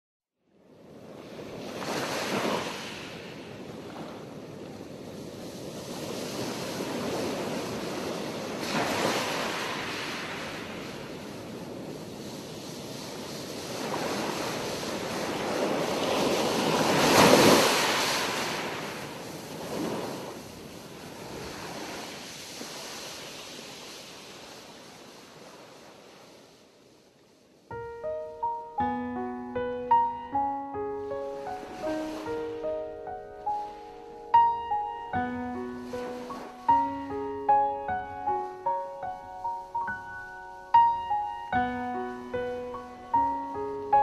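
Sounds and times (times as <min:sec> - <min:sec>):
ocean waves washing on shore: 0:00.5 - 0:44.0.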